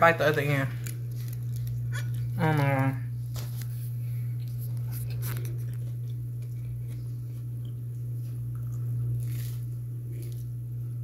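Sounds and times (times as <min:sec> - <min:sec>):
steady low hum: 0:00.0 - 0:11.0
person biting and chewing taco: 0:00.8 - 0:11.0.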